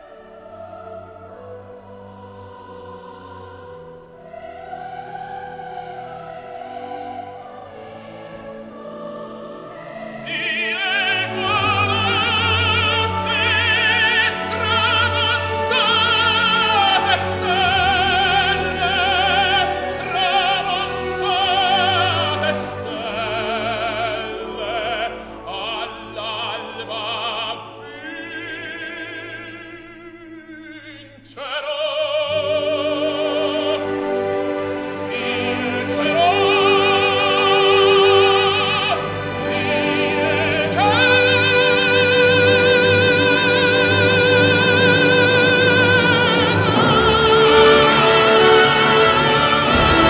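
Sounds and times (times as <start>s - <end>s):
orchestral accompaniment: 0.0s - 50.0s.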